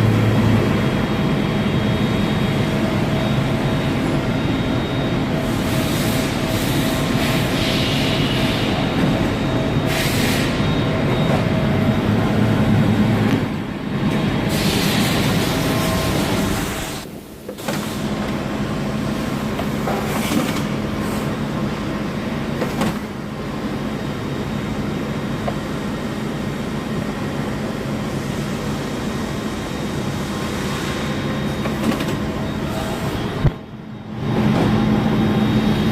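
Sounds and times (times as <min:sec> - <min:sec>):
lathe mechanical hum with tones: 0:00.0 - 0:35.9.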